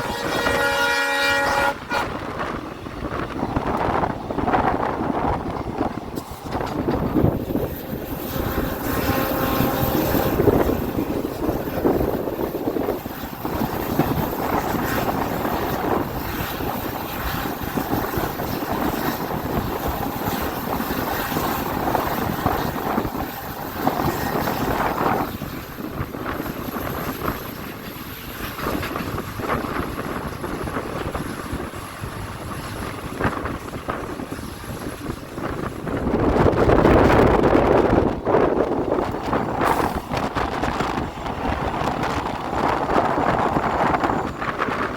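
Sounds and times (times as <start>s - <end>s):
train rumbling and rattling on track: 0.0s - 44.9s.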